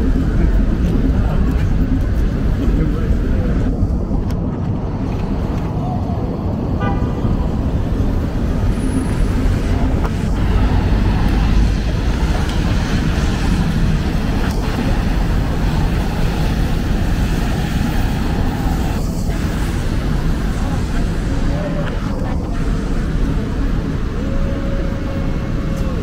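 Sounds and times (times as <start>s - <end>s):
city traffic on wet streets: 0.0s - 26.0s.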